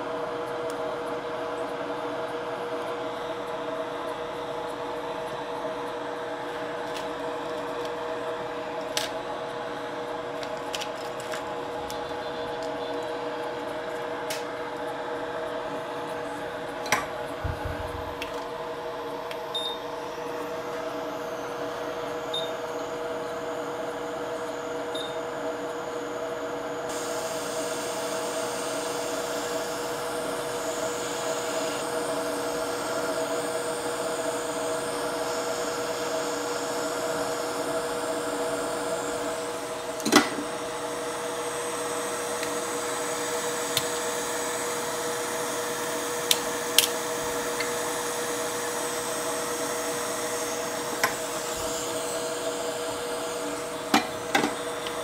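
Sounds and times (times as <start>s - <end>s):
air equipment motor hum: 0.0s - 55.0s.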